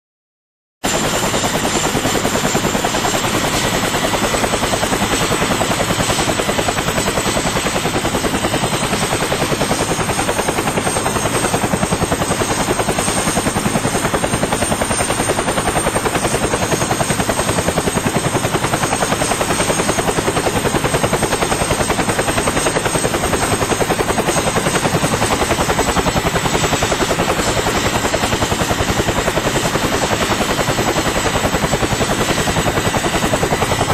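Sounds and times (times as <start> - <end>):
helicopter rotor chop: 0.8 - 33.9.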